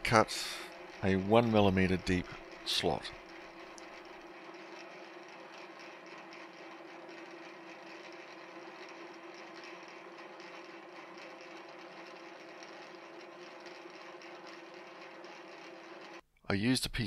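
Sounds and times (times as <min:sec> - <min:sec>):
milling machine humming: 0:00.0 - 0:16.2.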